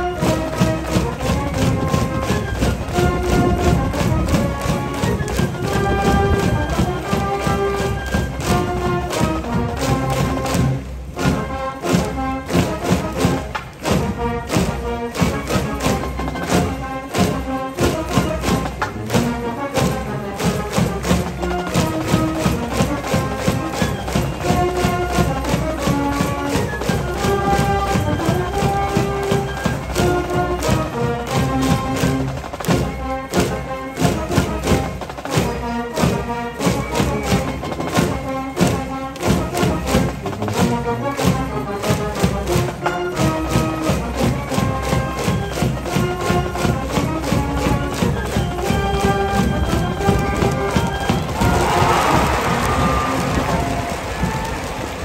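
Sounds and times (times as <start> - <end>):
brass melody in held notes: 0.0 - 55.0
cheering band playing: 0.0 - 55.0
steady drum beat: 0.0 - 55.0.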